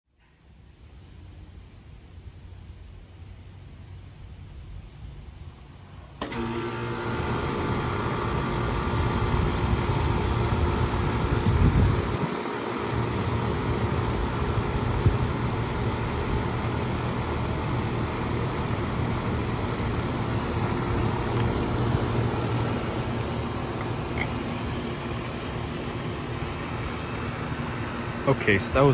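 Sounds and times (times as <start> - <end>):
heat pump running hum: 5.5 - 28.9.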